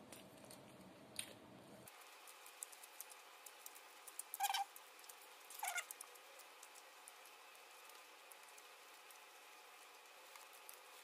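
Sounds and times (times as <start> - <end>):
crunchy chewing: 0.1 - 11.0.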